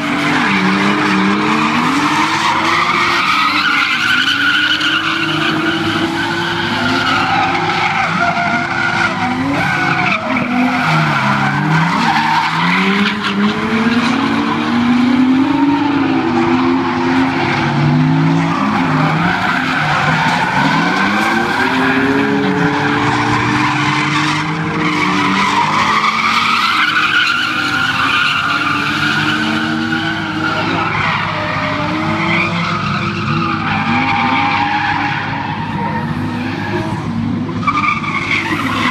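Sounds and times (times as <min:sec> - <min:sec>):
tyre squeal: 0:00.0 - 0:13.6, 0:17.3 - 0:38.9
car engines revving: 0:00.0 - 0:38.9.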